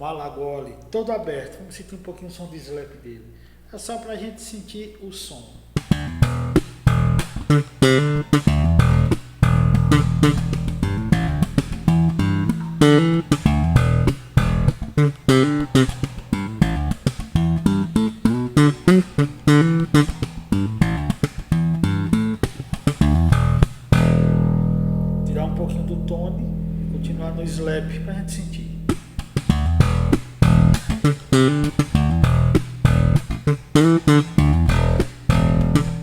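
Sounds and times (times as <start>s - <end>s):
slap bass guitar: 5.8s - 36.0s.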